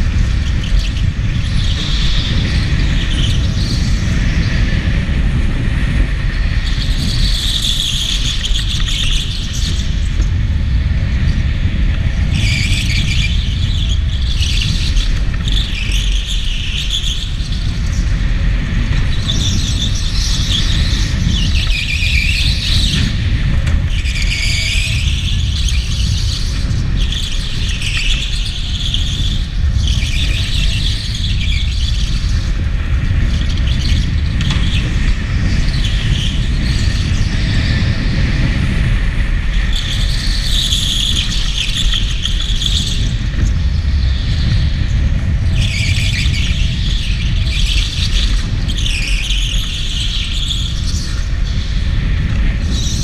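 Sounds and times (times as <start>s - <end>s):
go-kart low rumble: 0.0s - 53.0s.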